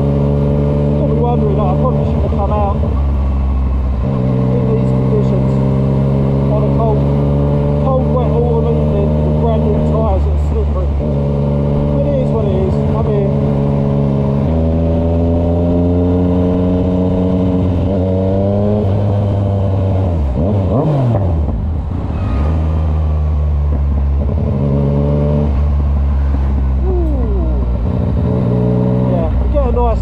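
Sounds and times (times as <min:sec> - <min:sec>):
motorcycle engine running: 0:00.0 - 0:21.9, 0:22.8 - 0:30.0.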